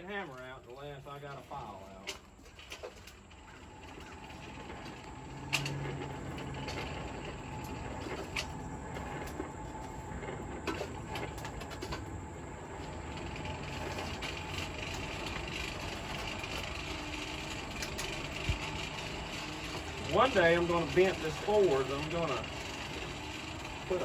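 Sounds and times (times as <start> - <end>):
forge rushing noise: 3.6 - 24.0.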